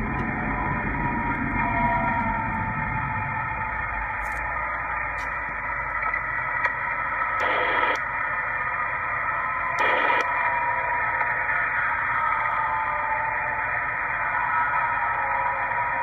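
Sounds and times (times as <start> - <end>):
siren-like radio tones: 0.0 - 16.0.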